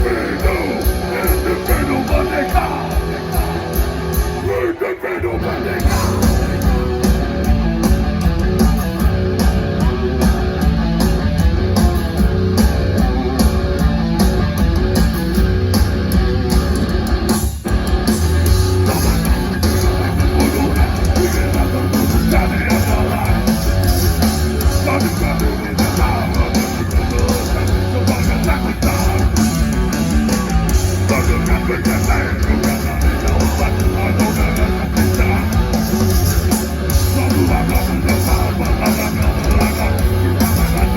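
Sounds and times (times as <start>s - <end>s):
distorted electric guitars: 0.0s - 40.9s
heavy metal band playing live: 0.0s - 40.9s.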